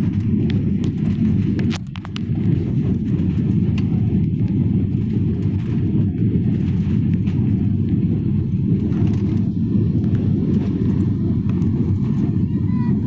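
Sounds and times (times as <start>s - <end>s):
airliner engine rumble in cabin: 0.0s - 13.0s.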